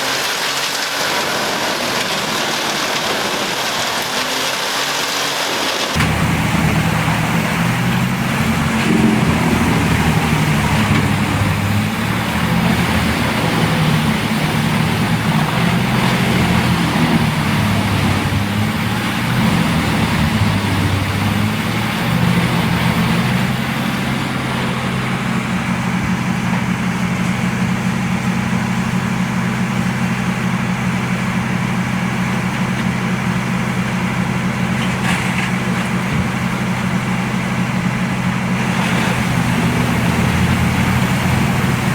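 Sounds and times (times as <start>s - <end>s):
wood chipper engine running hard: 0.0s - 41.9s.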